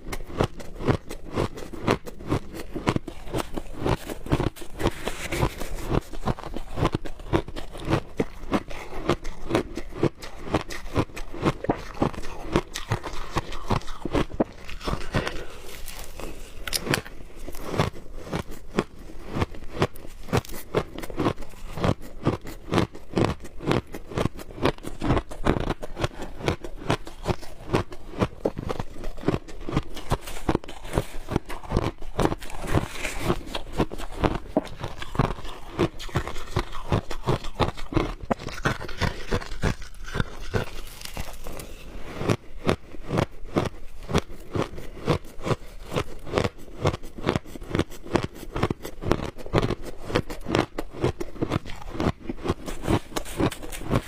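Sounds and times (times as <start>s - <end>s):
chewing crunchy ice: 0.0s - 54.0s.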